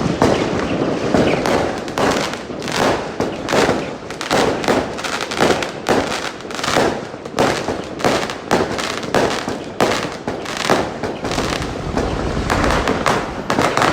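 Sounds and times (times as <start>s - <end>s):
fireworks bangs and crackle: 0.0s - 13.9s.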